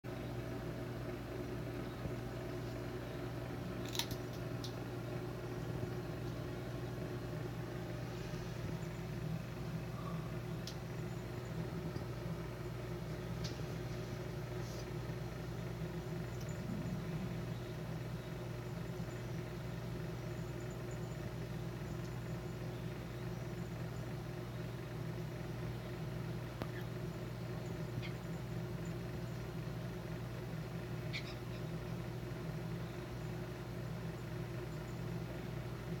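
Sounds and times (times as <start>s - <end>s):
low mechanical hum: 0.1s - 36.0s.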